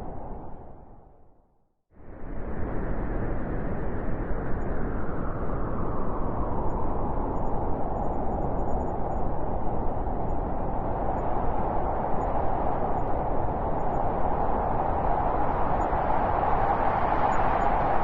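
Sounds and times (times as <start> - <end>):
wind blowing: 0.0 - 1.1, 2.3 - 18.0.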